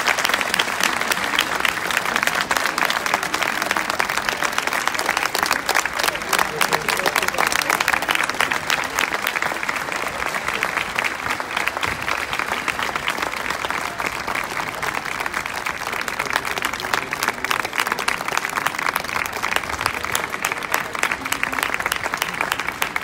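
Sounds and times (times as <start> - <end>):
crowd applauding: 0.0 - 23.0.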